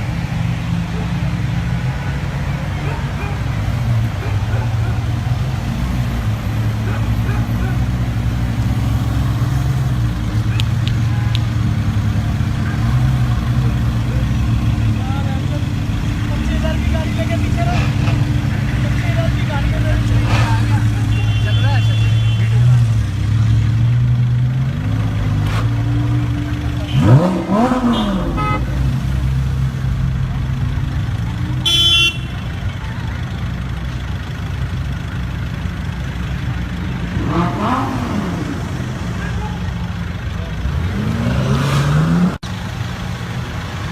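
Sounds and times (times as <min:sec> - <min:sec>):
vehicle engine running: 0:00.0 - 0:41.5.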